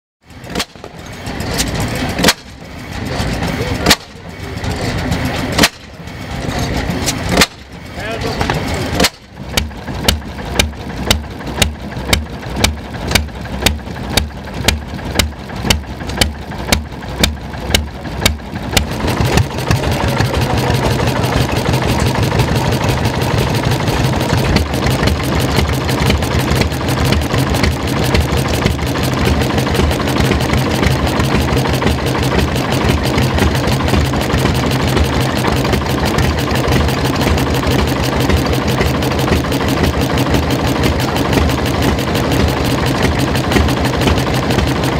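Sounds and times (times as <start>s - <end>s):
stationary engine running: 0.2s - 44.9s.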